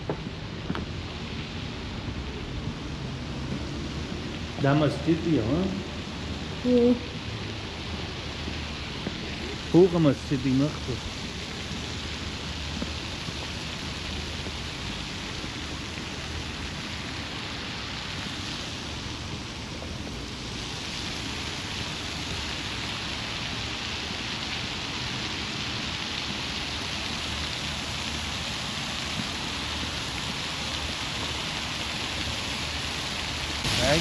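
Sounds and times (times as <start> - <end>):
fountain water splashing on stone: 0.0 - 34.0.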